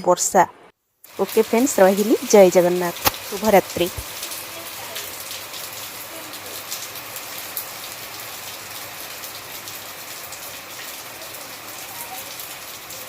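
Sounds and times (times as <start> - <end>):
heavy rain falling: 1.1 - 13.0.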